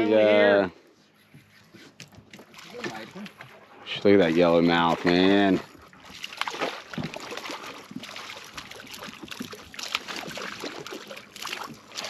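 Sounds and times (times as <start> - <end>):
fish thrashing and splashing: 1.7 - 12.0.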